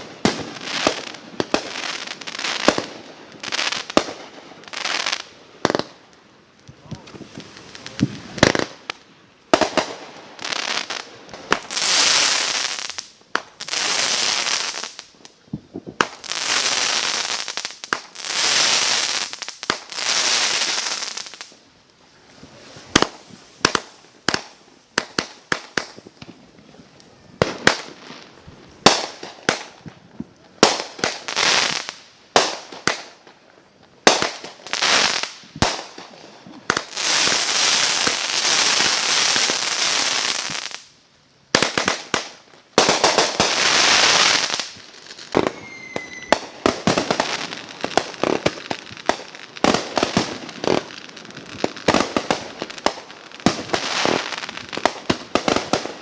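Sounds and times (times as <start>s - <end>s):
fireworks cracks and pops: 0.0s - 56.0s
fireworks hissing spurts: 6.7s - 29.9s, 30.5s - 56.0s.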